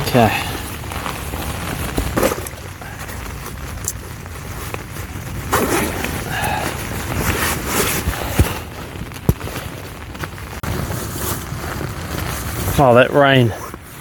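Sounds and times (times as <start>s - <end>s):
camping gear rustling: 0.0s - 14.0s.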